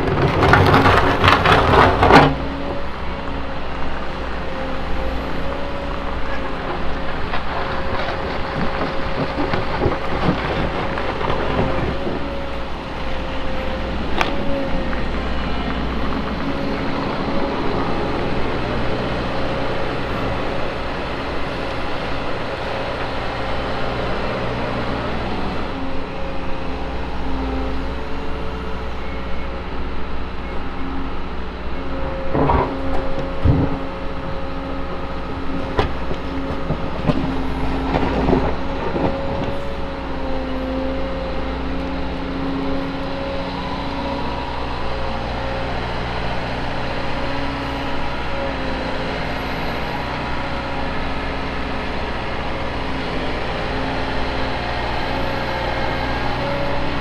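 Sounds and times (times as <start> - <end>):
excavator engine and hydraulics: 0.0 - 57.0
constant hydraulic whine: 1.4 - 57.0.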